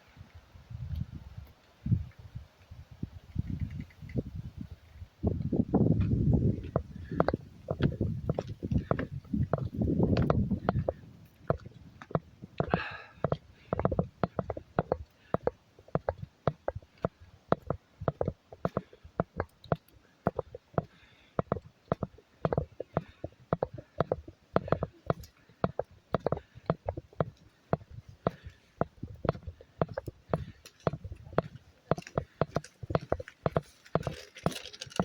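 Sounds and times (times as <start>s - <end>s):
footsteps on a trail: 4.5s - 35.0s.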